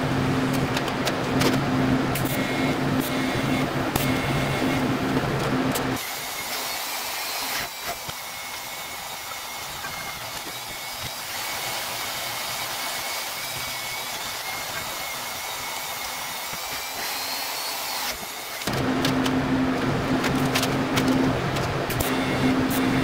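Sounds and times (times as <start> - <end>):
band saw cutting metal: 1.8 - 23.0.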